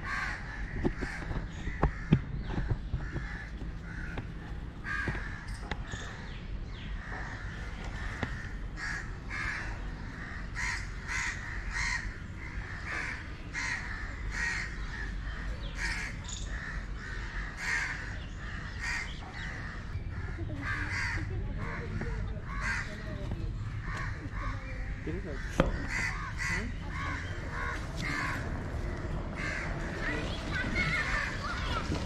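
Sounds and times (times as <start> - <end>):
bird calling: 0.0 - 32.0.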